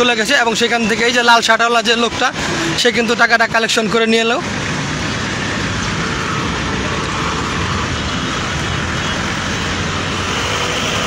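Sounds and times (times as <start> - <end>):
vehicle engines: 0.0 - 11.0.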